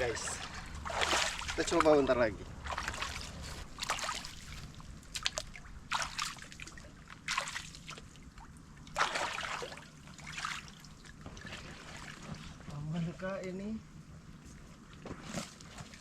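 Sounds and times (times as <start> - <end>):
water splashing against boat: 0.0 - 12.8.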